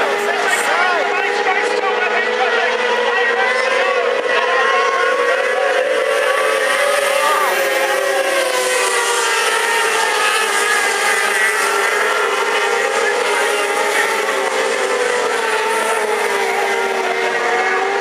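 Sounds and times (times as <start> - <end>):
racing car engines: 0.0 - 18.0.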